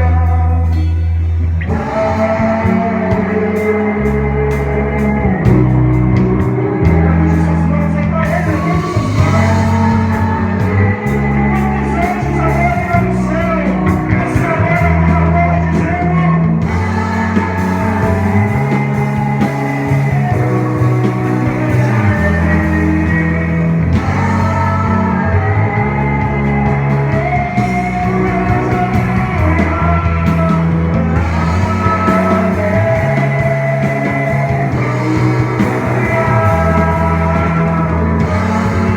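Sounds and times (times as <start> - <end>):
bass line: 0.0 - 38.9
electric guitar: 0.0 - 38.9.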